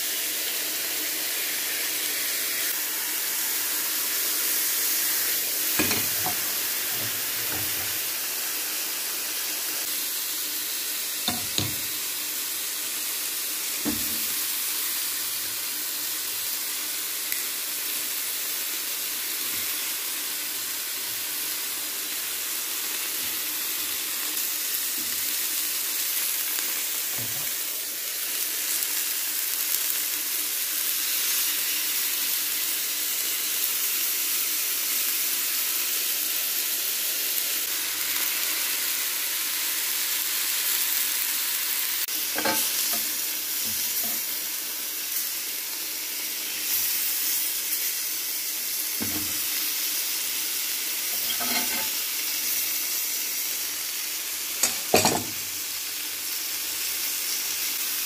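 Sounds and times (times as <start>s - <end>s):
food sizzling in a grill pan: 0.0s - 58.0s.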